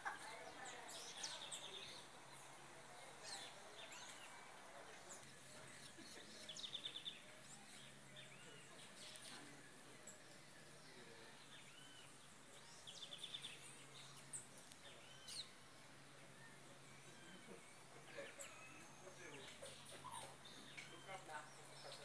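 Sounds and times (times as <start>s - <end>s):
faint birdsong: 0.0s - 22.0s.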